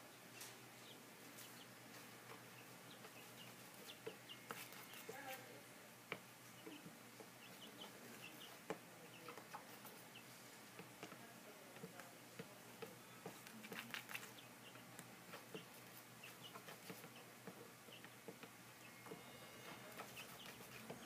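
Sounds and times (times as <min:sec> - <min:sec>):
chicks peeping: 0:00.0 - 0:11.2, 0:11.8 - 0:21.0
pecking and scratching in shavings: 0:00.4 - 0:21.0.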